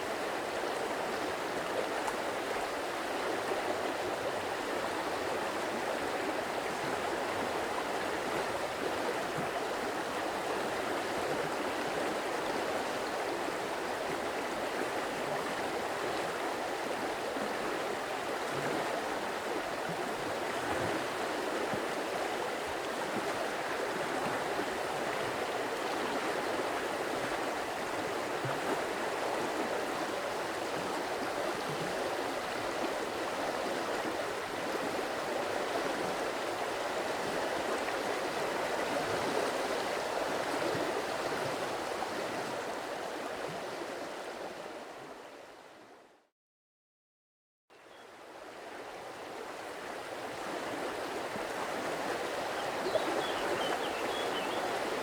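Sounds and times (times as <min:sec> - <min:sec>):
stream water rushing: 0:00.0 - 0:45.2, 0:48.2 - 0:55.0.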